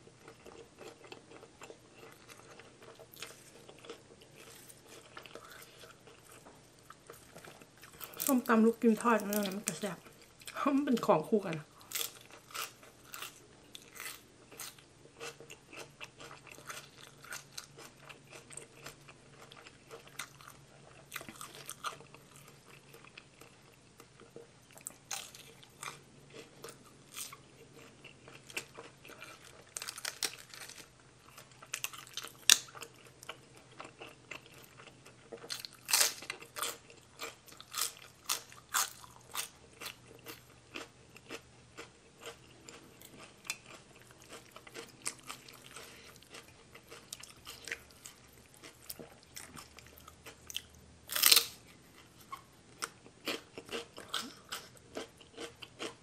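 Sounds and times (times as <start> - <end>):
crunchy chewing of salad: 0.0 - 56.0.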